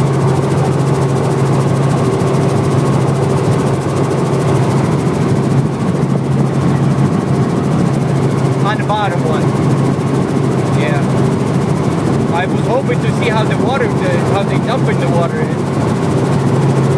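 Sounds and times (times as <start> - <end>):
helicopter engine and rotors: 0.0 - 16.9.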